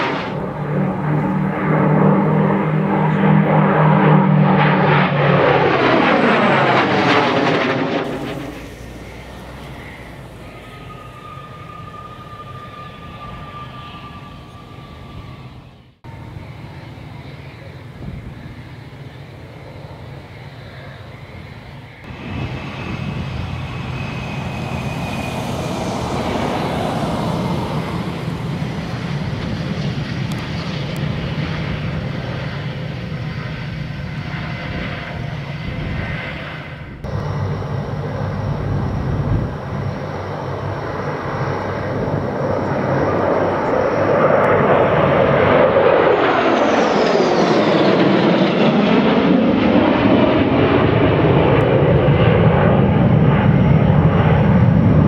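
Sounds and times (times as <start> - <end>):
jet engine roar on takeoff: 0.0 - 55.0
jet passing overhead: 0.0 - 55.0.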